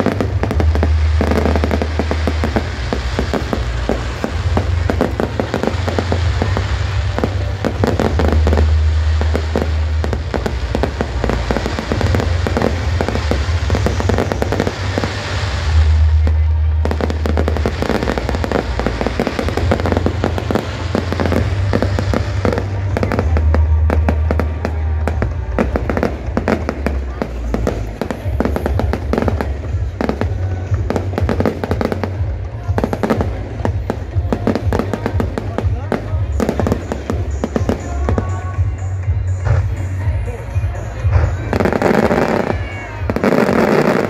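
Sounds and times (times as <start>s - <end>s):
fireworks popping and crackling: 0.0s - 44.0s.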